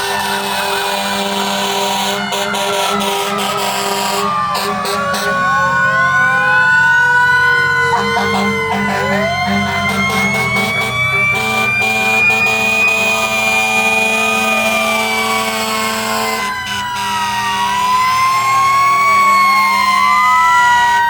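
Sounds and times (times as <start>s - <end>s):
fire truck sirens wailing: 0.0s - 21.0s.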